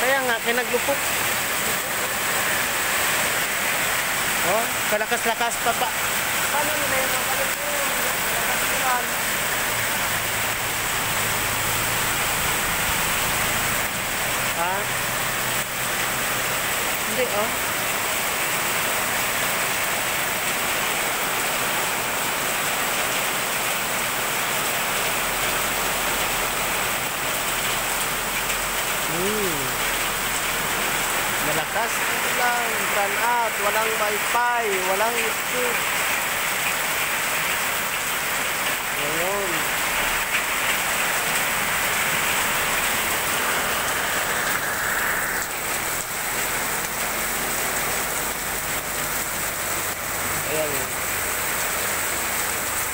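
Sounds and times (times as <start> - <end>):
heavy rain pouring: 0.0 - 52.9
water streaming off awning: 0.0 - 52.9.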